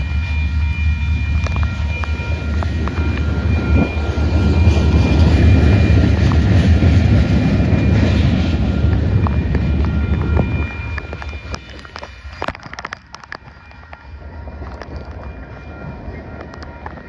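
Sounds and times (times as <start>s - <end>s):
freight train rumble: 0.0s - 17.0s
train wheel clicks: 1.3s - 7.3s, 7.9s - 15.6s, 16.2s - 17.0s.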